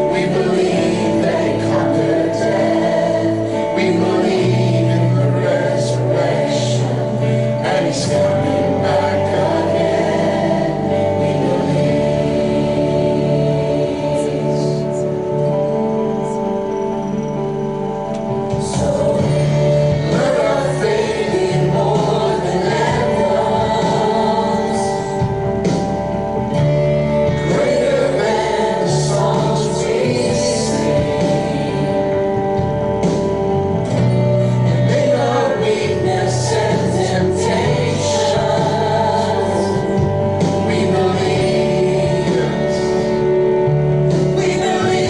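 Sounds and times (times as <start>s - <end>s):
people singing: 0.0s - 16.4s, 18.1s - 45.0s
bass line: 0.0s - 45.0s
keyboard chords: 0.0s - 45.0s.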